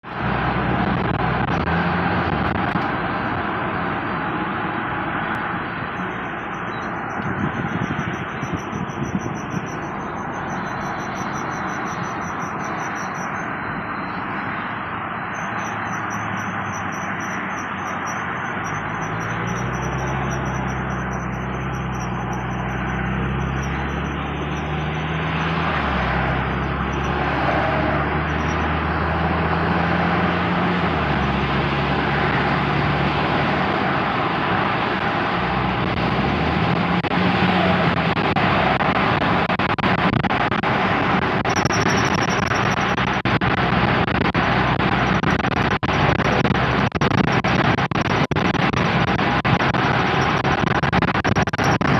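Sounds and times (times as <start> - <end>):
car road and engine noise: 0.0 - 51.9
brakes chirping: 5.2 - 51.9.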